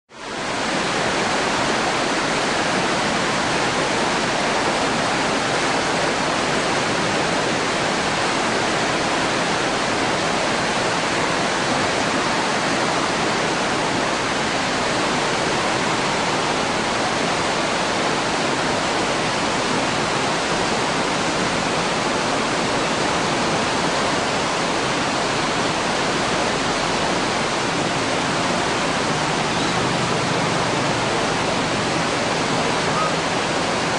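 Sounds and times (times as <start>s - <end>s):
river rushing: 0.1s - 33.9s.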